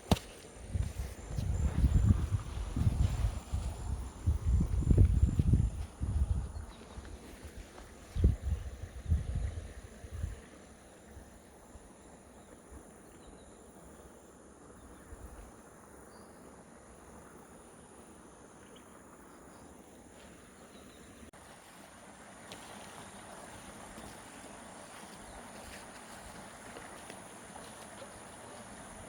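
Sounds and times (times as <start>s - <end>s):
high insect drone: 0.0s - 29.0s.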